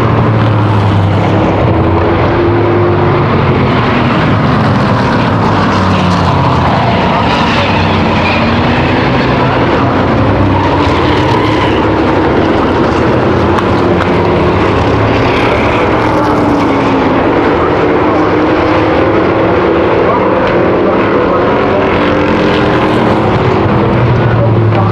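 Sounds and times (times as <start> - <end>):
racing car engines passing: 0.0 - 24.9.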